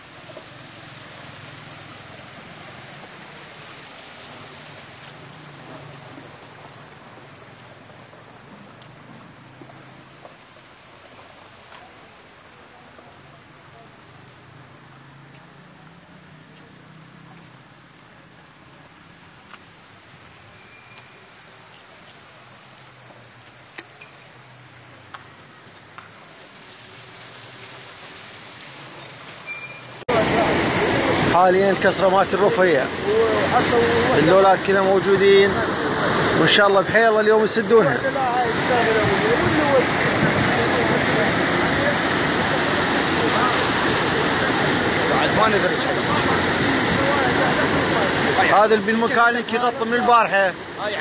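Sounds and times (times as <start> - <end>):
water hissing: 0.0 - 17.3, 18.6 - 51.0
floodwater rushing: 0.0 - 51.0.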